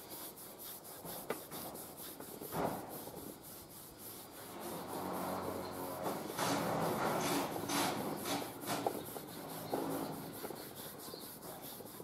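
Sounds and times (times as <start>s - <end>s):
cloth rubbing on metal: 0.0s - 12.0s.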